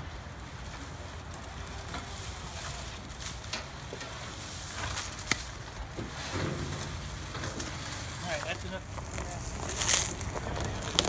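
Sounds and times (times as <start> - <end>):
pine needles rustling and crackling: 0.0 - 11.0.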